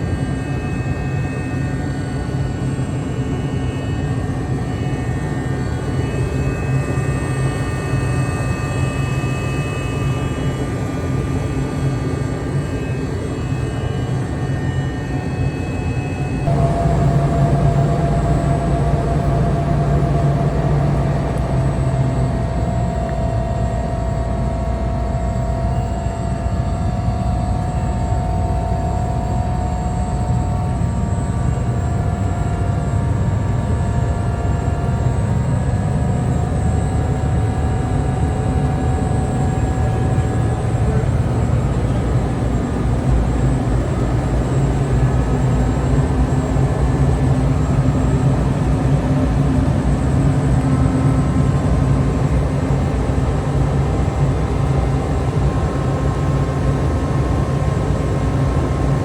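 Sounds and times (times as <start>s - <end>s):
machinery drone with humming tones: 0.0s - 59.0s.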